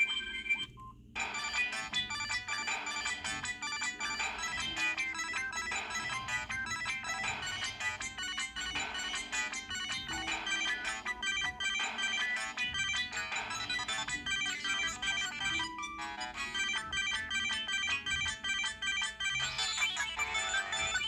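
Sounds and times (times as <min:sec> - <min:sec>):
phone ringtone melody: 0:00.0 - 0:21.0.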